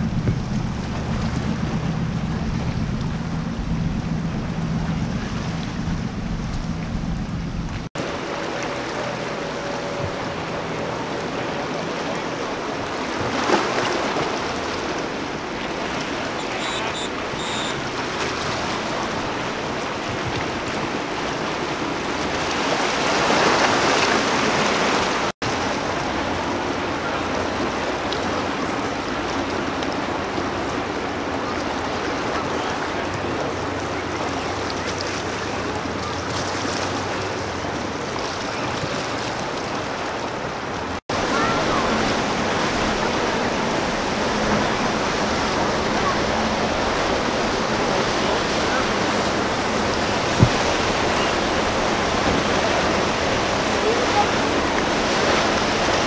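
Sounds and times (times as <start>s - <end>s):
boat engine drone: 0.0s - 56.0s
rushing water and surf: 0.0s - 56.0s.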